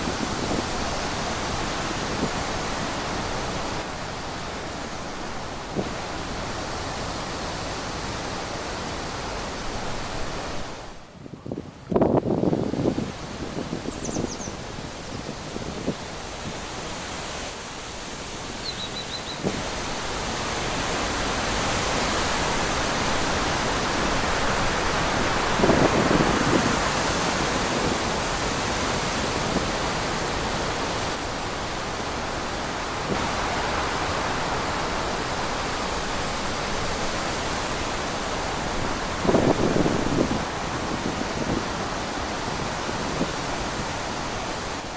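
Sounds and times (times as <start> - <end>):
wind blowing through trees: 0.0 - 44.9.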